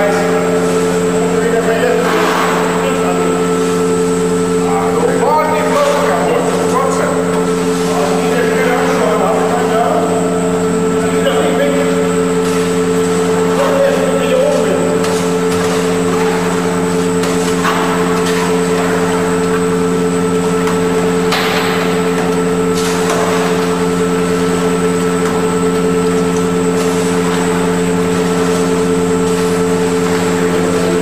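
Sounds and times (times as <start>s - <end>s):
machinery humming drone: 0.0s - 31.0s.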